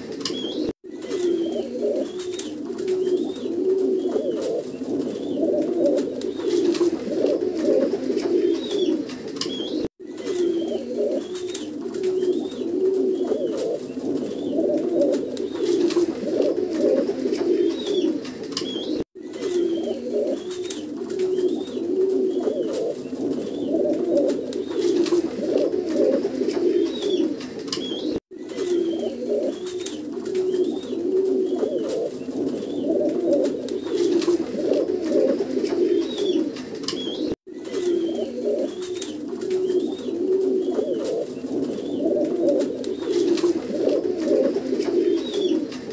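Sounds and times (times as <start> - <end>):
pigeons cooing: 0.0 - 45.9.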